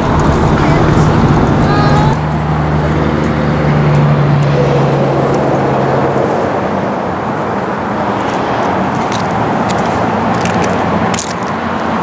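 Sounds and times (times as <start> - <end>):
engine hum: 0.0 - 12.0
rushing road noise: 0.0 - 12.0.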